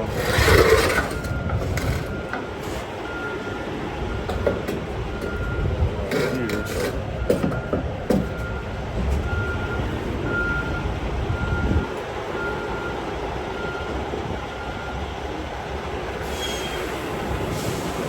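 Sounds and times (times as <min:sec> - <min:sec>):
machinery rumble: 0:00.0 - 0:18.0
vehicle backup alarm beeping: 0:00.2 - 0:15.6.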